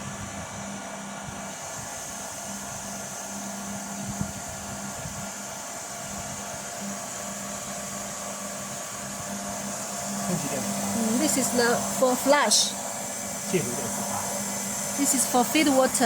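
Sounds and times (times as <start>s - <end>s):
water purifier humming and hissing: 0.0s - 16.0s.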